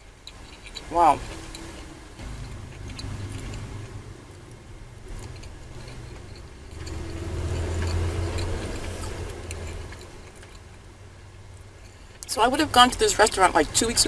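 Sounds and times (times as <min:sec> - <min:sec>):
vehicle rumble passing: 0:00.0 - 0:14.0.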